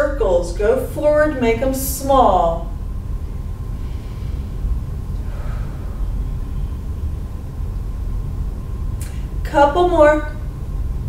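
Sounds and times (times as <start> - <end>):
faint high hum: 0.0 - 11.0
low room rumble: 0.0 - 11.0.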